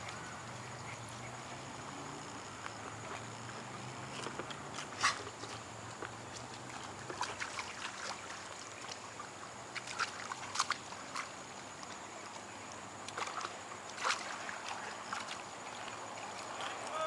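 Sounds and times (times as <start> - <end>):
creek water trickling: 0.0 - 17.0
water splashes: 0.0 - 17.0.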